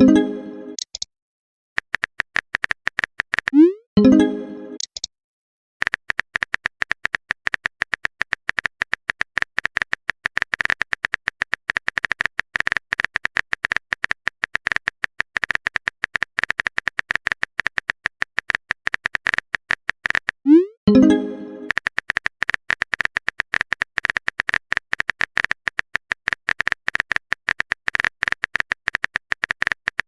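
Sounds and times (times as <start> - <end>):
keyboard typing clicks: 0.0 - 1.1, 1.8 - 5.1, 5.8 - 30.0.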